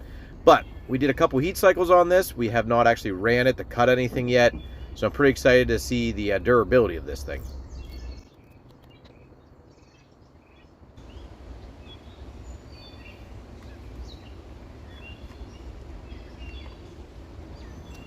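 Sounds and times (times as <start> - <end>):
birds chirping: 0.0 - 18.0
low outdoor rumble: 0.0 - 18.0.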